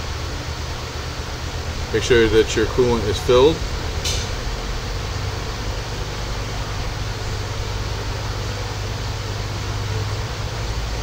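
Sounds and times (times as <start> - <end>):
even hiss: 0.0 - 11.0
machinery hum: 0.0 - 11.0.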